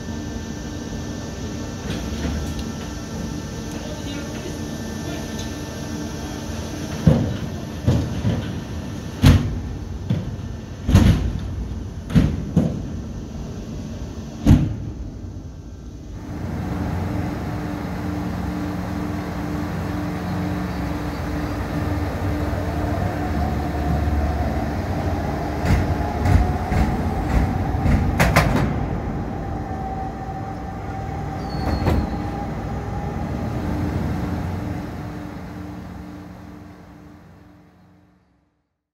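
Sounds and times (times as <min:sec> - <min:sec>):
mechanical hum with rising whine: 0:00.0 - 0:38.8.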